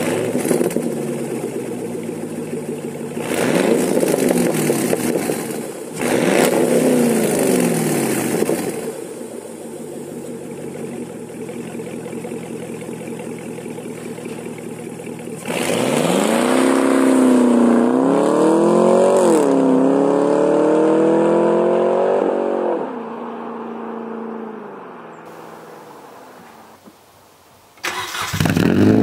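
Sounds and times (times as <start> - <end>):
car engine accelerating: 0.0 - 26.3, 27.8 - 29.0.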